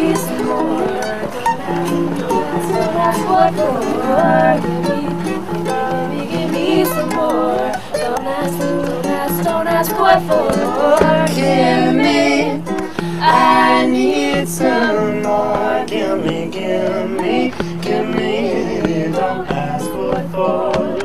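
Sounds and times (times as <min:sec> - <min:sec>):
plucked acoustic string instrument: 0:00.0 - 0:21.0
woman singing: 0:00.0 - 0:21.0.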